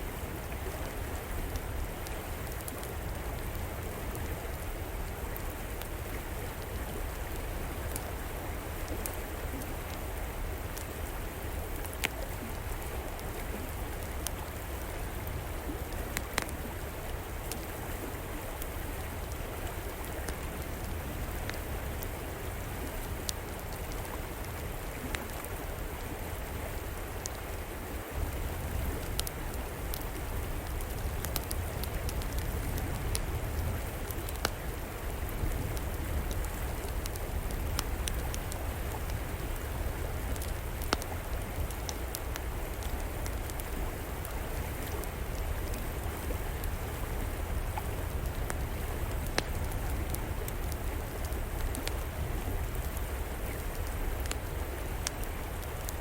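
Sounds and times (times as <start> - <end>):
fire crackling and popping: 0.3 - 56.0.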